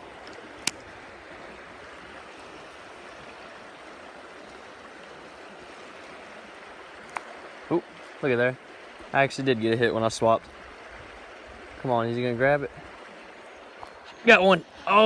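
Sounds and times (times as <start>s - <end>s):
creek water over rocks: 0.0s - 15.0s.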